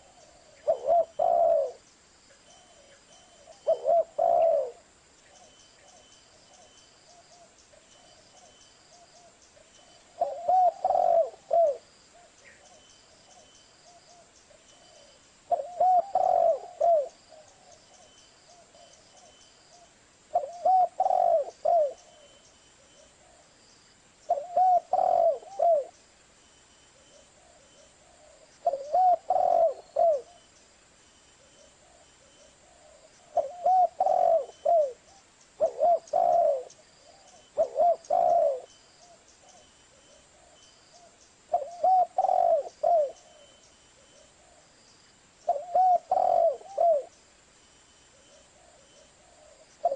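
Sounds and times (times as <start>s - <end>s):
dove cooing: 0.0s - 1.8s, 2.6s - 23.5s, 24.3s - 26.0s, 27.0s - 30.5s, 31.4s - 44.8s, 45.4s - 47.2s, 48.1s - 49.9s.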